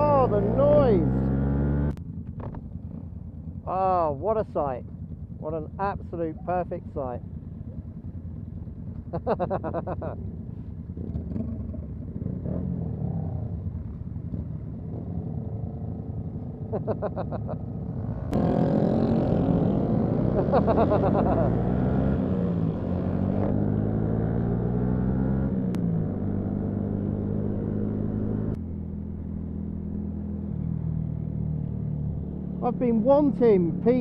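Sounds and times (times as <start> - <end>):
motorcycle engines revving: 0.0 - 3.6, 5.2 - 34.0.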